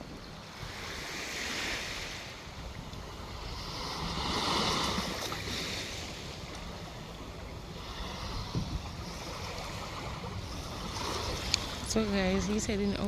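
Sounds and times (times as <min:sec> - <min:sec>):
surf washing on shore: 0:00.0 - 0:13.0
wind buffeting microphone: 0:00.0 - 0:13.0.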